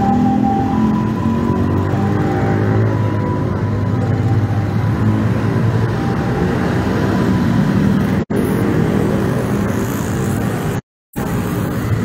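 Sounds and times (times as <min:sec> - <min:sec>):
cars and motorbikes passing: 0:00.0 - 0:12.0.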